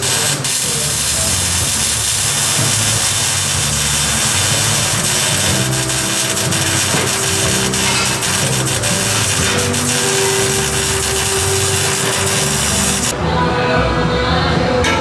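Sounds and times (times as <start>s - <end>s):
arc welding crackling hiss: 0.0s - 13.1s.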